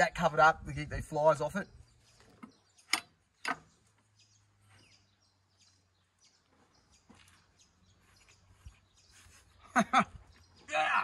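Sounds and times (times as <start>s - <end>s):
faint bird chirps: 1.4s - 11.0s.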